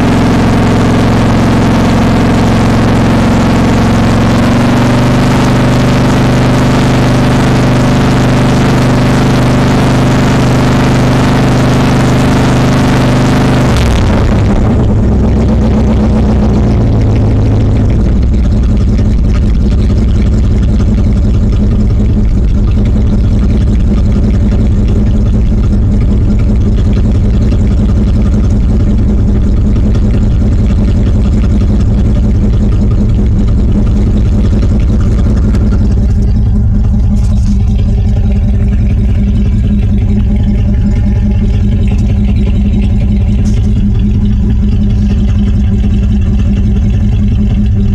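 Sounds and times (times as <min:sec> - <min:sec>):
loud distorted truck engine: 0:00.0 - 0:47.9.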